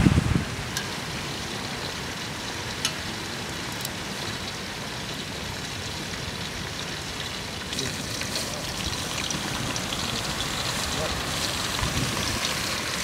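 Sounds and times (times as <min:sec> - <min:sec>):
oil sizzling in a pot: 0:00.4 - 0:13.0.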